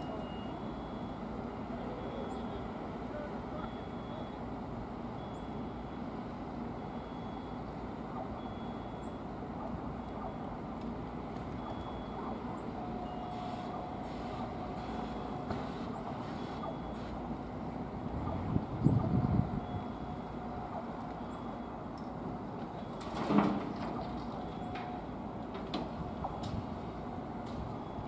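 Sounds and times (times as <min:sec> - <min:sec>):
steady whine: 0:00.0 - 0:28.0.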